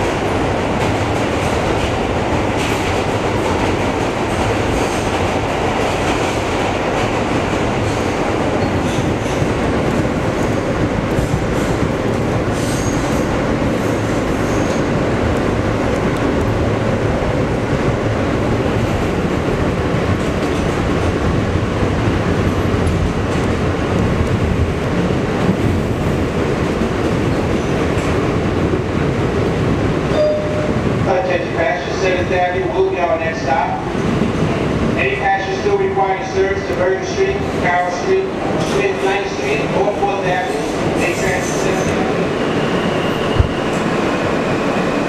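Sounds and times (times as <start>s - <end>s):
subway train wheels rumbling on rails: 0.0s - 45.0s.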